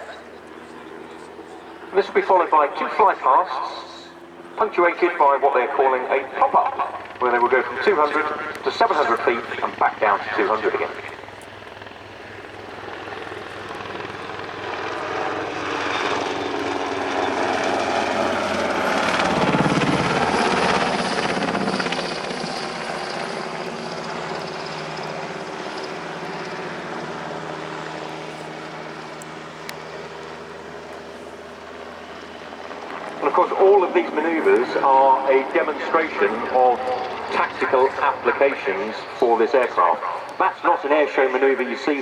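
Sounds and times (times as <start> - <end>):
helicopter flying past: 0.0 - 42.0.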